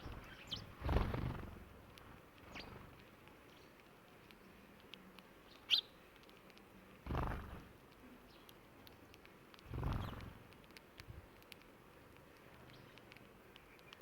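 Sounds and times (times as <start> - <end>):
sparrows chirping: 0.0 - 10.5, 12.5 - 14.0.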